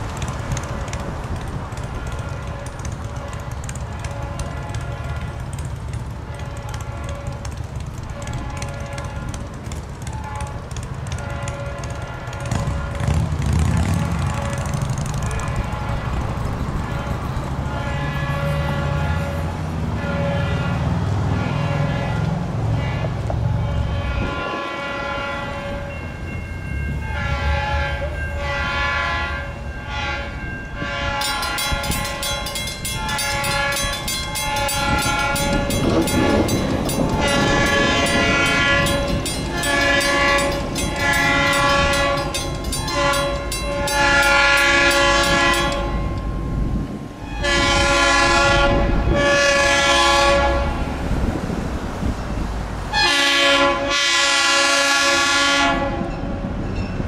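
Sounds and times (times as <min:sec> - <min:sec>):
moving train rumble: 0:00.0 - 0:57.0
locomotive horn blasts: 0:01.9 - 0:26.1, 0:27.0 - 0:51.0, 0:52.9 - 0:56.4.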